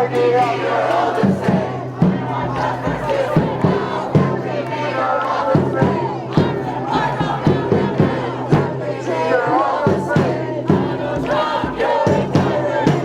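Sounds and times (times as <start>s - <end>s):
crowd shouting and cheering: 0.0s - 13.0s.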